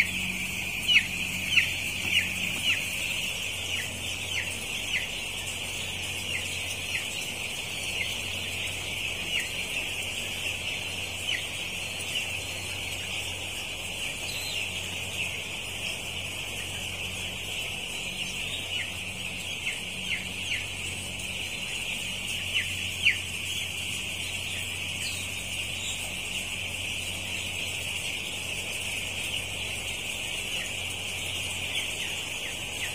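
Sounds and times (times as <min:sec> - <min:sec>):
chicks peeping: 0:00.0 - 0:32.9
steady low hum: 0:00.0 - 0:32.9.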